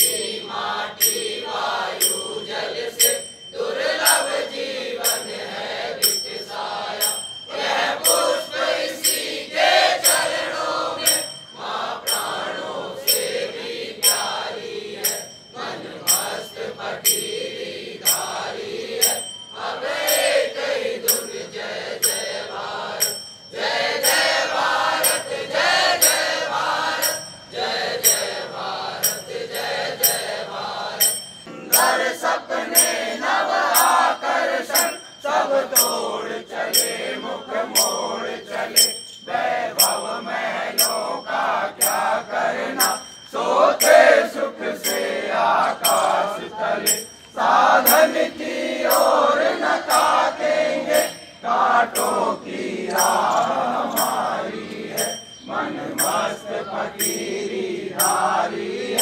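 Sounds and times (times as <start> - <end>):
men singing in unison: 0.0 - 59.0
sharp rhythmic clicks: 0.0 - 59.0.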